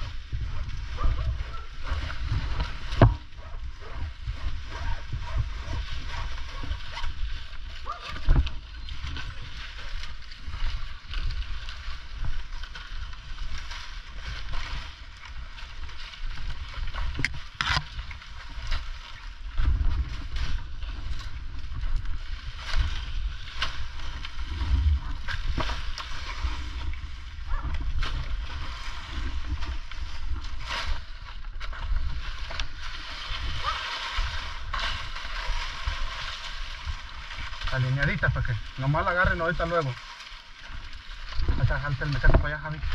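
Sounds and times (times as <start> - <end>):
dry palm fronds rustling: 0.0 - 42.9
low rumble on microphone: 0.0 - 42.9.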